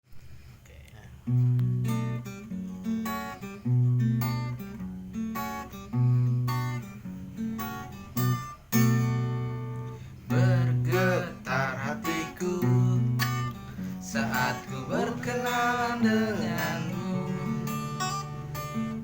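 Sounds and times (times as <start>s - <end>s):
acoustic guitar playing: 1.2s - 19.0s.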